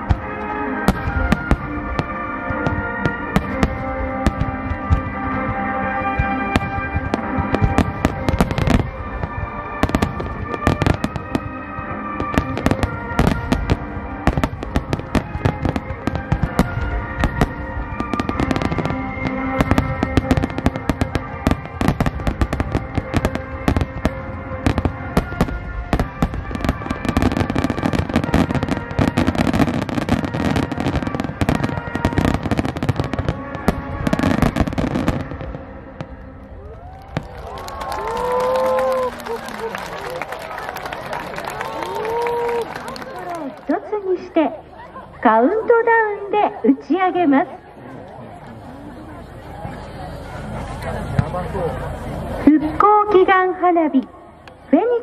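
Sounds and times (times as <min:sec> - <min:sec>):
fireworks bursting: 0:00.0 - 0:44.3
music: 0:00.0 - 0:55.0.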